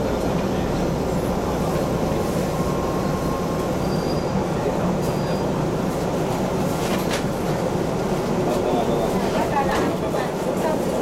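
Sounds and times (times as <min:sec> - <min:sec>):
subway car rumbling on track: 0:00.0 - 0:11.0.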